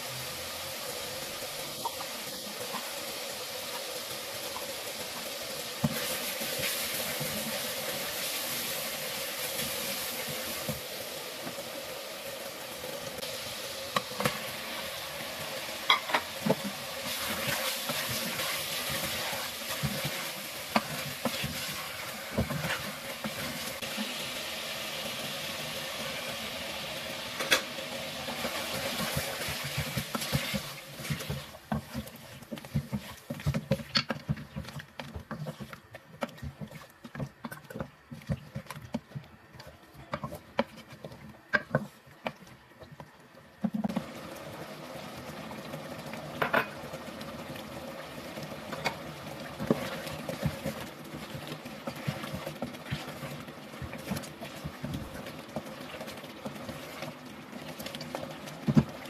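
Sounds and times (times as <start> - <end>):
food sizzling in a pot: 0.0 - 42.0, 43.6 - 59.0.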